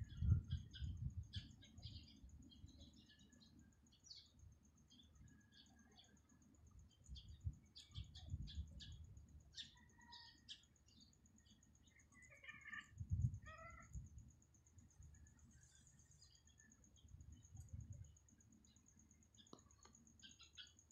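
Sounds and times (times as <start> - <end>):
small birds chirping: 0.0 - 14.2, 14.8 - 20.9.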